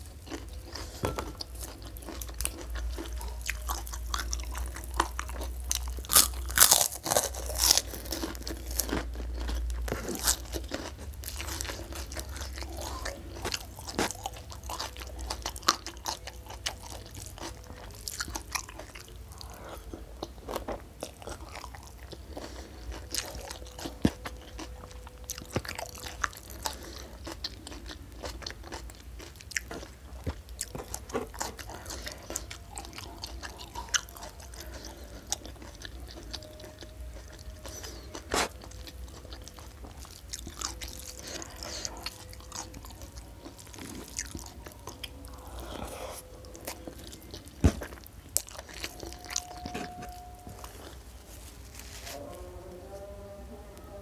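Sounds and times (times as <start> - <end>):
crunching crackers: 0.0 - 52.4.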